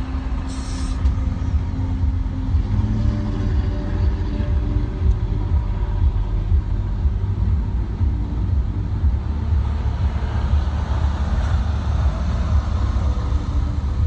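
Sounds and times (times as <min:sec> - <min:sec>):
van engine and road noise: 0:00.0 - 0:14.0.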